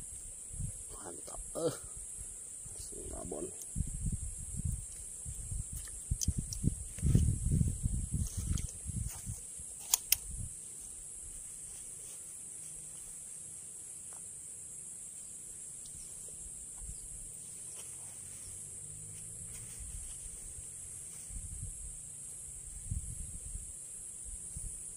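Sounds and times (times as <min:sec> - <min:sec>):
insects chirping chorus: 0:00.0 - 0:24.9.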